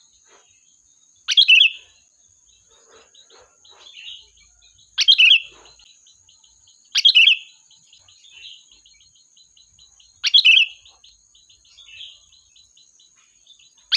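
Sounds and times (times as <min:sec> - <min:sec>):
bulbul calling: 0:00.0 - 0:13.9.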